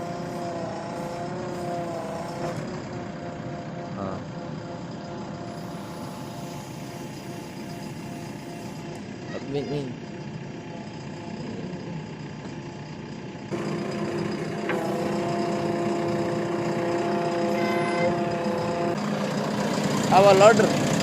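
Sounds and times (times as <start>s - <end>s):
steady whine: 0.0s - 9.3s, 10.0s - 21.0s
diesel engine running: 0.0s - 21.0s.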